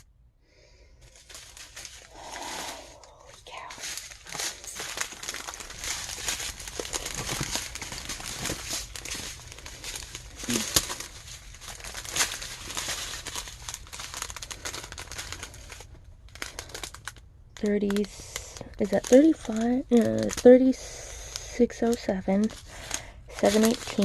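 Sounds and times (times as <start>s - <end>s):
plastic packaging crinkling: 1.0s - 24.0s.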